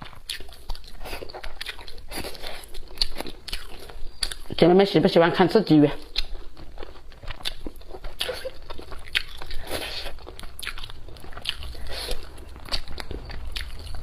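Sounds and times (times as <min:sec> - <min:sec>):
person chewing and biting: 0:00.0 - 0:04.6, 0:06.0 - 0:14.0.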